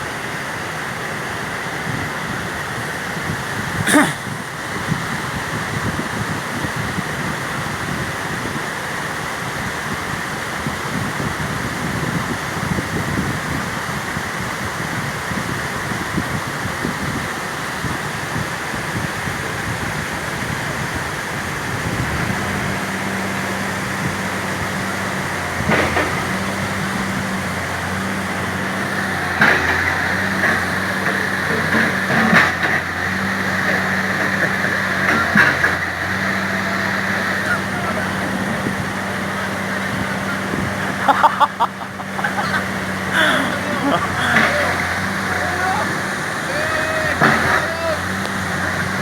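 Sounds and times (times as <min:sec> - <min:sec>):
backhoe engine running: 0:00.0 - 0:49.0.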